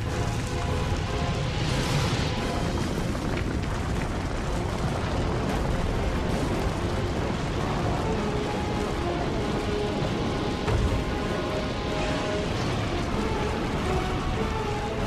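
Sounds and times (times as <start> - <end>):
loud continuous rumbling: 0.0 - 15.0.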